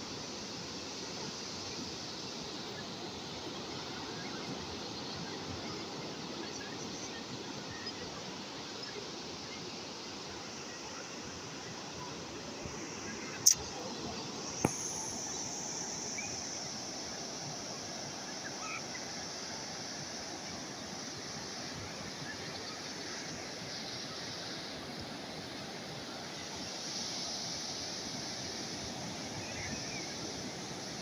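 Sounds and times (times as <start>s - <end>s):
sea waves washing ashore: 0.0s - 31.0s.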